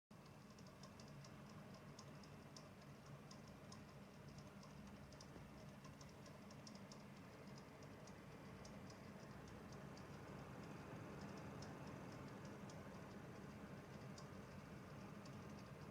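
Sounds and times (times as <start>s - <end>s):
fan low hum: 0.1s - 15.9s
faulty fan clicking: 0.1s - 15.9s.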